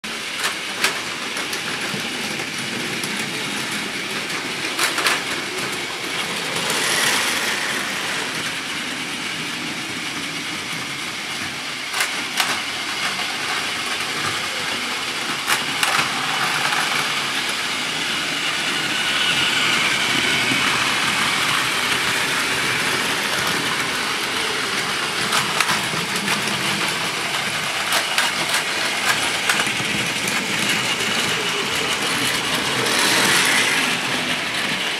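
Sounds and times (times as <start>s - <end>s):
toy train motors whirring: 0.1s - 34.9s
wheels rattling over plastic track: 0.1s - 34.9s.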